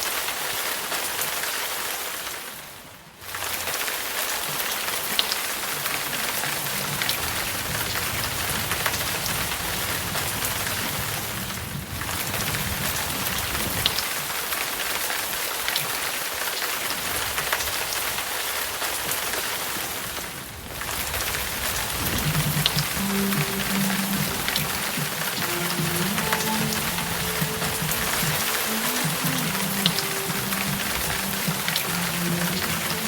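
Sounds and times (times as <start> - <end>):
rain hiss: 0.0 - 33.0
rain drop ticks: 3.3 - 33.0.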